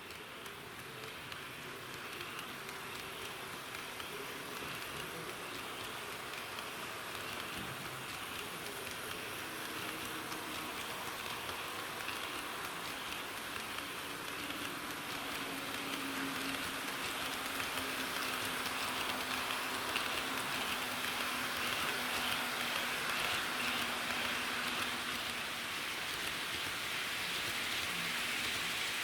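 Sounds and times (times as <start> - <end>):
model train wheels on rails: 0.0 - 29.0.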